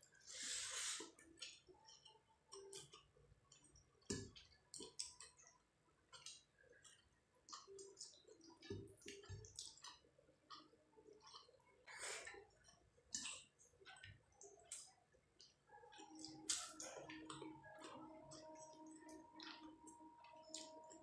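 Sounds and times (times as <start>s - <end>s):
wet chewing clicks and smacks: 1.0s - 21.0s.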